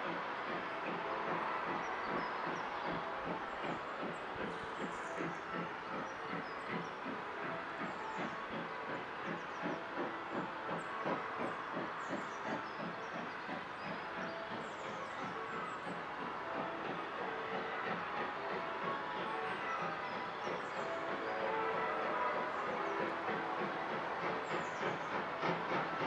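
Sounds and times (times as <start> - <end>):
steady steam hiss: 0.0 - 26.0
steam locomotive exhaust beat: 0.0 - 26.0.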